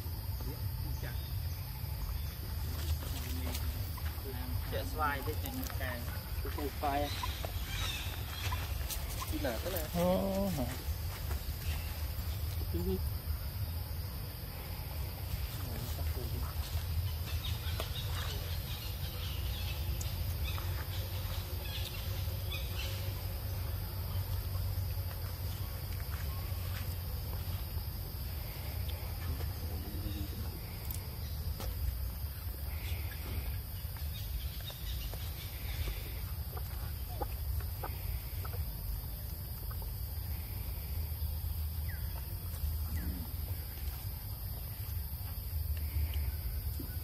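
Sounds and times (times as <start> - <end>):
high insect drone: 0.0 - 47.0.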